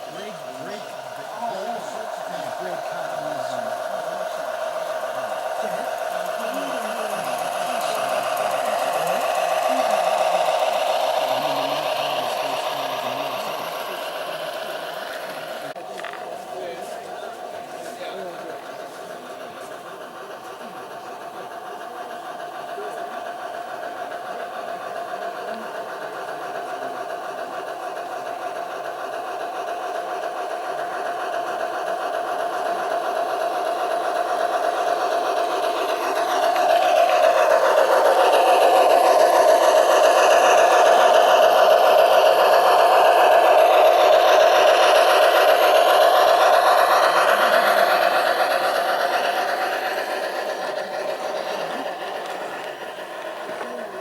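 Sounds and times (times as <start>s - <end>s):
model train rattling on track: 0.0s - 54.0s.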